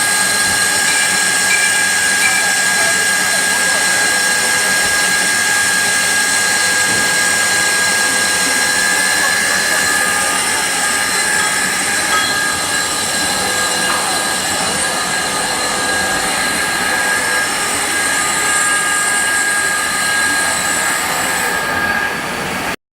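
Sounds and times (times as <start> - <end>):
high-pitched whining tones: 0.0 - 22.7
machine hiss: 0.0 - 22.7
lathe running: 0.0 - 22.8.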